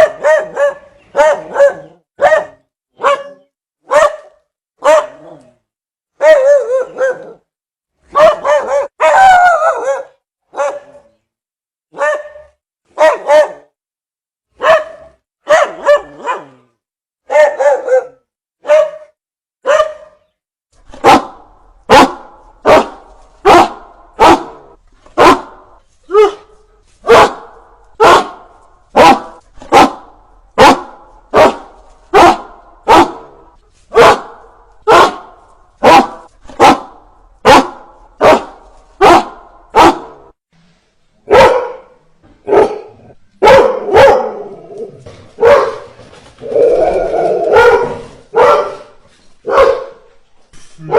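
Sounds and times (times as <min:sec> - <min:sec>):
dog barking: 0:00.0 - 0:05.4, 0:06.2 - 0:07.4, 0:08.1 - 0:11.1, 0:11.9 - 0:13.8, 0:14.6 - 0:16.6, 0:17.2 - 0:20.2, 0:20.9 - 0:40.3, 0:41.2 - 0:44.7, 0:45.4 - 0:45.9, 0:47.4 - 0:50.1.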